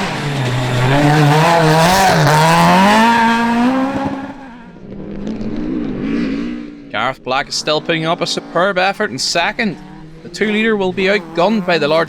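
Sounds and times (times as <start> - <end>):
rally car engine passing: 0.0 - 12.0.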